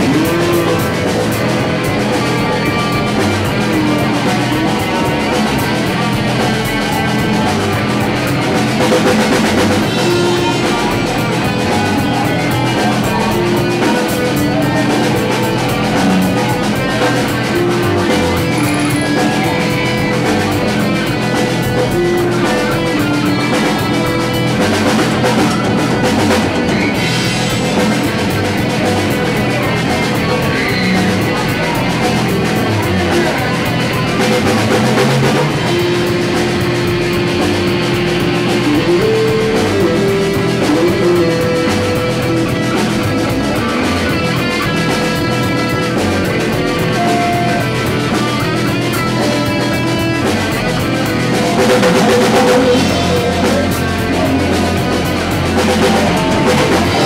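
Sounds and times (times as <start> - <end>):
drum kit: 0.0 - 57.0
guitar: 0.0 - 57.0.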